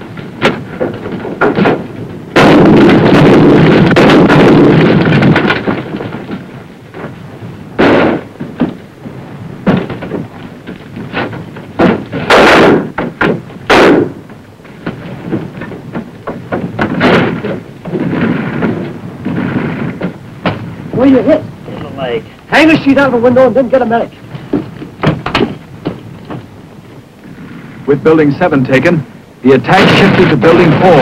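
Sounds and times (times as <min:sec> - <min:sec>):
muffled explosions and shots: 0:00.0 - 0:26.4, 0:27.2 - 0:31.0
knocks and thuds: 0:00.0 - 0:26.5.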